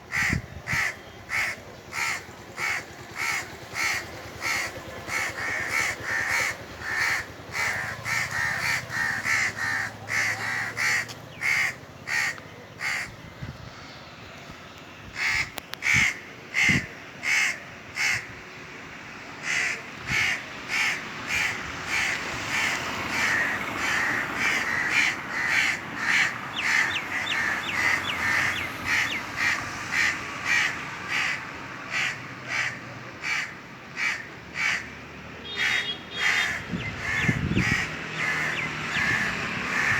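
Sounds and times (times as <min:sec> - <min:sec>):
crows cawing: 0:00.1 - 0:13.2, 0:15.2 - 0:18.3, 0:19.4 - 0:39.9.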